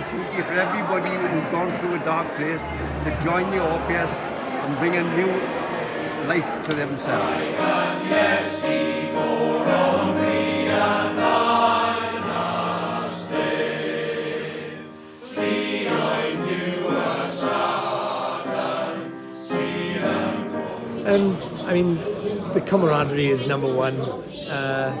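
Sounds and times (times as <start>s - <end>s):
male voice choir singing: 0.0s - 25.0s.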